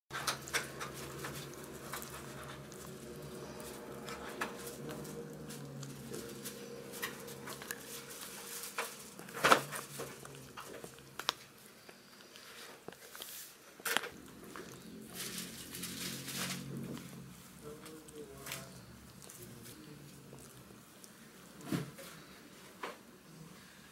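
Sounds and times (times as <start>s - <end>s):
dog gnawing a chew toy: 0.1s - 22.6s.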